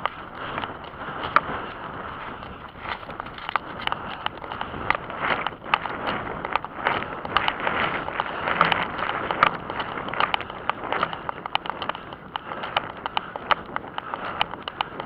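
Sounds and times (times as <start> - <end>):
running footsteps on pavement: 0.0 - 15.0
wind and clothing rustle: 0.0 - 15.0.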